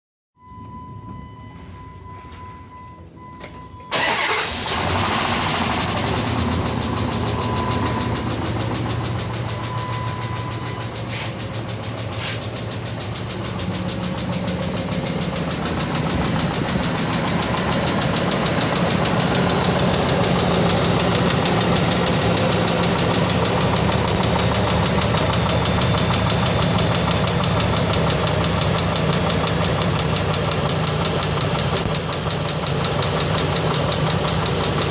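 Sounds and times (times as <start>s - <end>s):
engine starting and idling: 3.2s - 34.9s
loud rapid engine tick: 4.0s - 34.9s.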